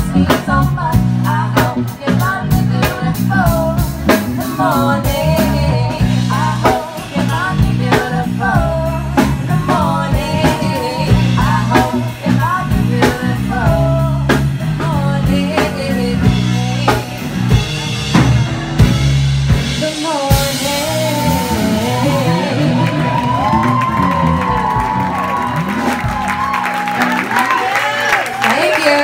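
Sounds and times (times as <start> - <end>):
woman singing lead: 0.0 - 18.2, 19.5 - 26.7, 28.3 - 29.0
electric bass: 0.0 - 27.7
drum kit: 0.0 - 28.4
electric guitar: 0.0 - 28.5.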